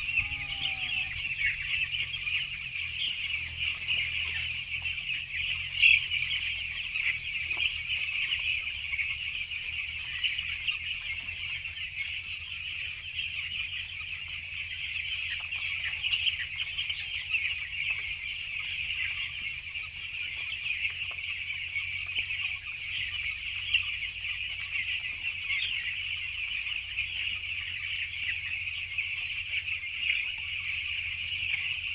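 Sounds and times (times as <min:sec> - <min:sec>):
chicks peeping: 0:00.0 - 0:31.9.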